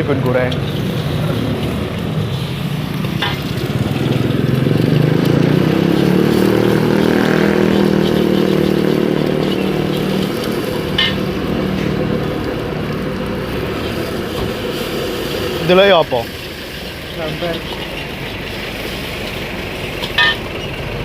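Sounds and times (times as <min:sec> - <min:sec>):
engine drone: 0:00.0 - 0:21.0
noodles frying in a wok: 0:00.0 - 0:21.0.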